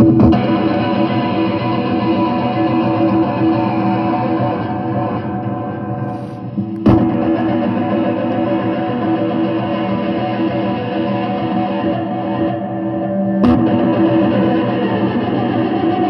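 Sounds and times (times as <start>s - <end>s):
electric guitar notes ringing: 0.0s - 16.0s.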